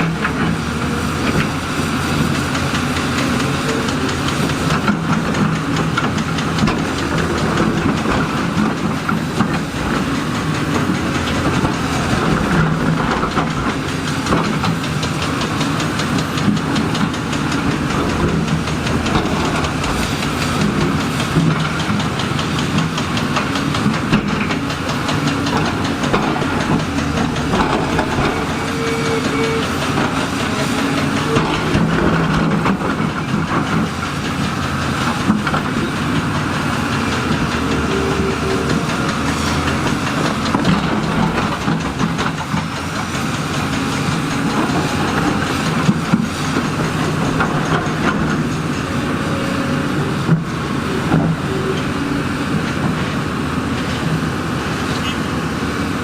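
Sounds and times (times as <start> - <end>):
metallic clanks and knocks: 0.0 - 54.0
diesel engine under load: 0.0 - 56.0.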